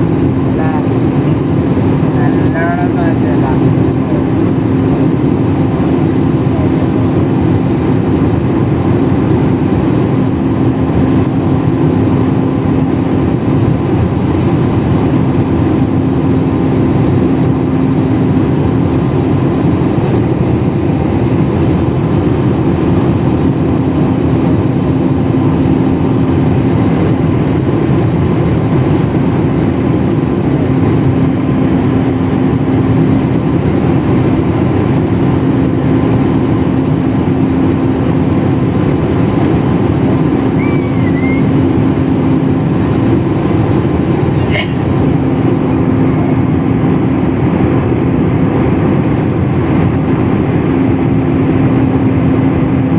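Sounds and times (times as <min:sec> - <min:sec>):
constant low hum: 0:00.0 - 0:52.9
jet engine cabin drone: 0:00.0 - 0:52.9.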